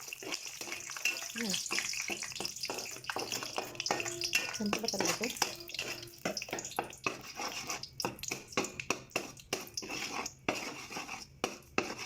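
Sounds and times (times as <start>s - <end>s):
metal utensil scraping a pan: 0.0s - 12.0s.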